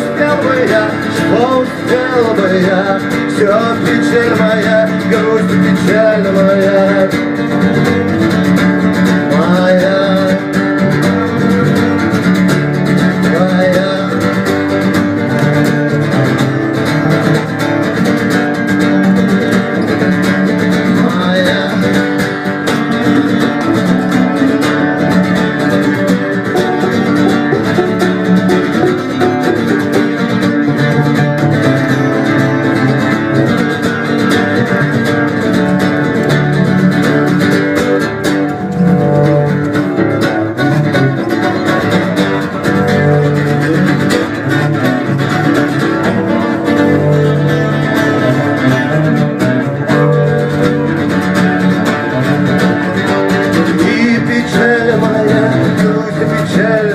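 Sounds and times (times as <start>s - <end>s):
acoustic guitar: 0.0s - 56.9s.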